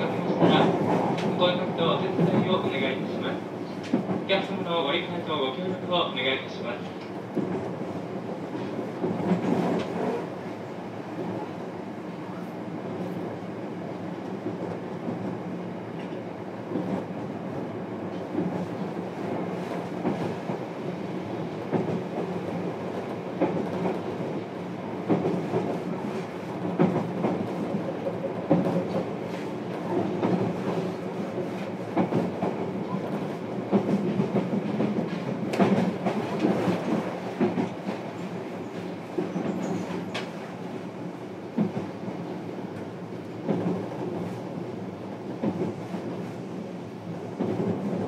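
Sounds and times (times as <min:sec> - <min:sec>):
train running hum: 0:00.0 - 0:48.0.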